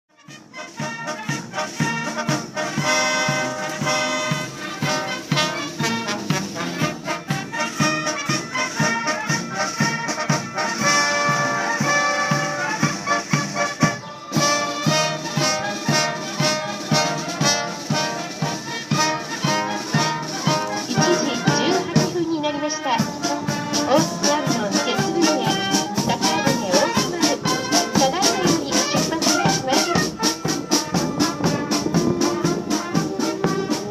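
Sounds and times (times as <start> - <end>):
brass band music: 0.1 - 33.9.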